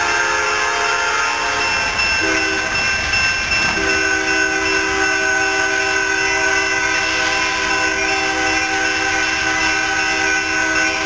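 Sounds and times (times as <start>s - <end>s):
train horn blowing: 0.0s - 2.8s, 3.8s - 11.0s
train rumble: 0.0s - 11.0s.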